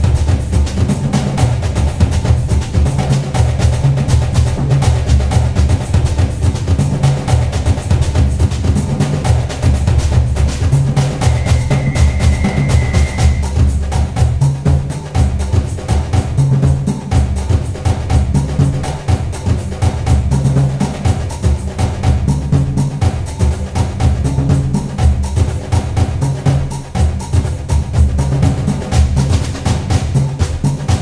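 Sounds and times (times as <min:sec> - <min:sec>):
music with drum beat and bass: 0:00.0 - 0:31.0.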